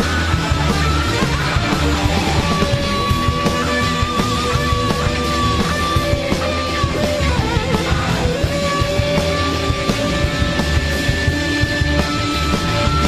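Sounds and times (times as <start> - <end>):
bass guitar: 0.0 - 13.0
drums: 0.0 - 13.0
electric guitar solo: 0.0 - 13.0.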